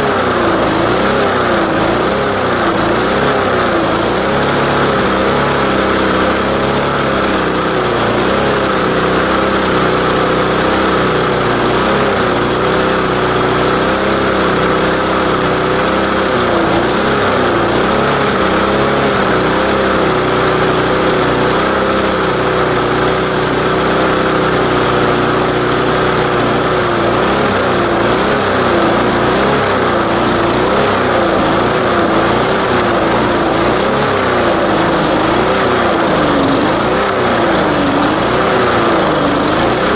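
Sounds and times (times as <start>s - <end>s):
lawnmower engine running: 0.0s - 39.9s.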